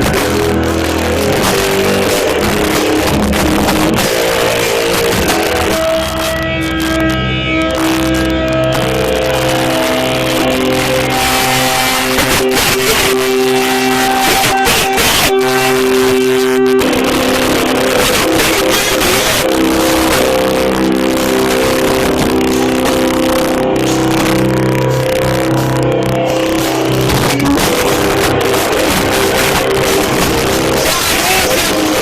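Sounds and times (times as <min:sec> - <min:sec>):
distorted electric guitar chords: 0:00.0 - 0:32.0.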